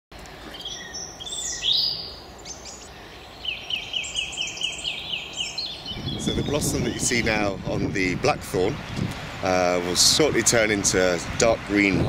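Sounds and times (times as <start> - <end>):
outdoor background hiss: 0.1 - 12.0
songbirds singing: 0.1 - 12.0.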